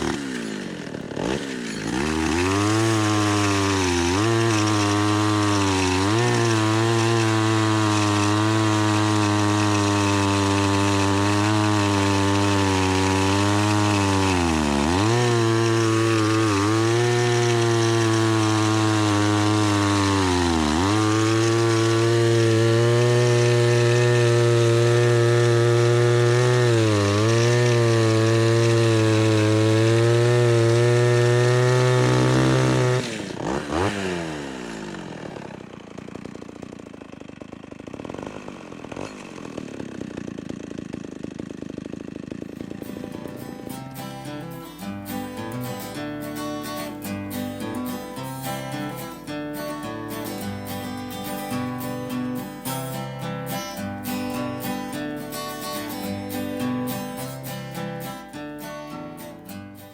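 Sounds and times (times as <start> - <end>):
chainsaw cutting at high revs: 0.0 - 59.9.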